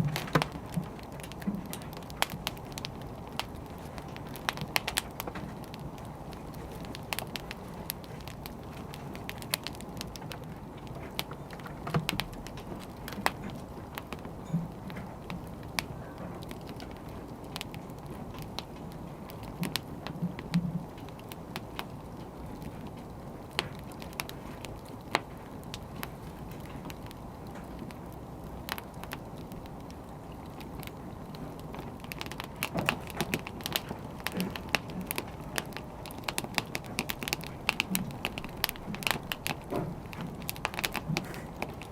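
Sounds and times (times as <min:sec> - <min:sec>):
fire sharp pops: 0:00.0 - 0:41.9
wood fire low rush: 0:00.0 - 0:41.9.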